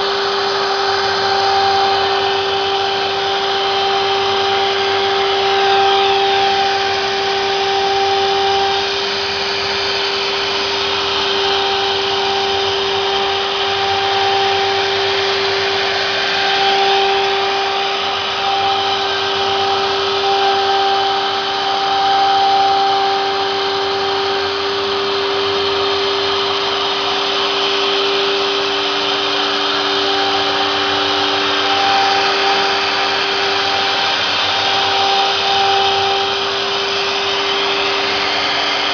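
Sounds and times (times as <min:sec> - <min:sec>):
router spindle whine: 0:00.0 - 0:38.9
vacuum pump rushing: 0:00.0 - 0:38.9.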